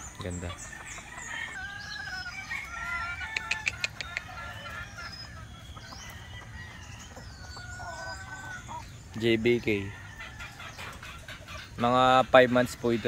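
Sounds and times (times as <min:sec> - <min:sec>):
chickens clucking: 0:00.0 - 0:13.0
small birds chirping: 0:00.0 - 0:13.0.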